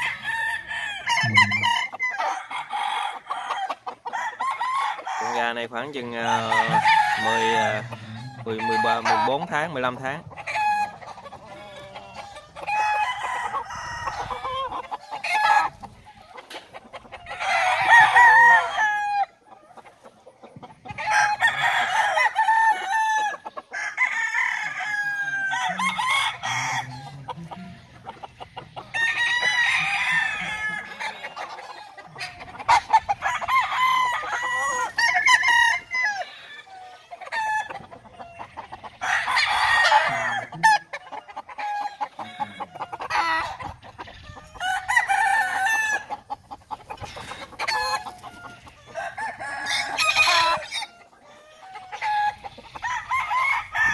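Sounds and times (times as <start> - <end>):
chickens clucking: 0.0 - 53.9
roosters crowing: 0.0 - 53.9.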